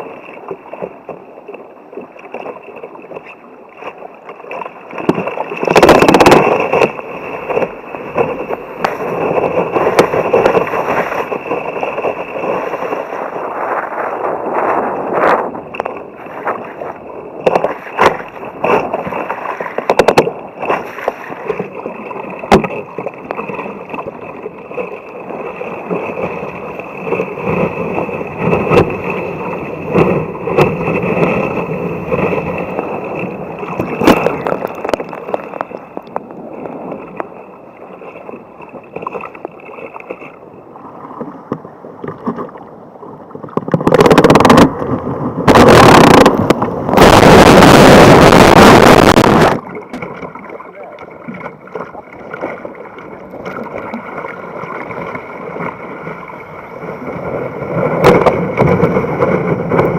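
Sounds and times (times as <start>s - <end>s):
knocks and splashes: 0.0s - 37.3s, 41.0s - 59.9s
sea water sloshing around kayak: 0.0s - 59.9s.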